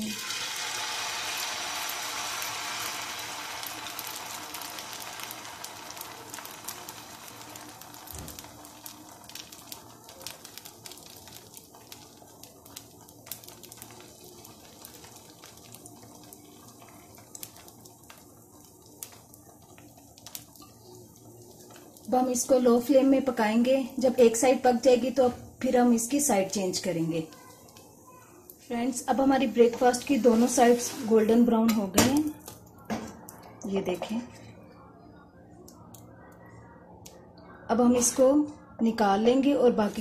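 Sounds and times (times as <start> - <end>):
batter sizzling in hot oil: 0.0 - 32.4.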